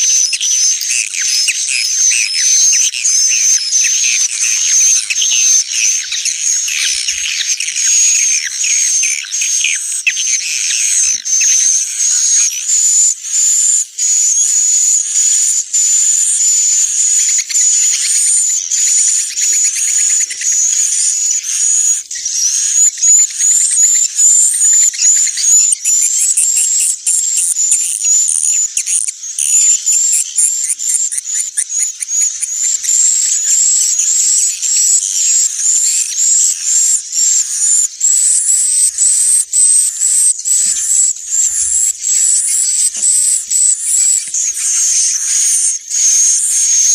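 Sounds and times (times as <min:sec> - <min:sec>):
swiftlets twittering and chirping: 0:00.0 - 0:46.9.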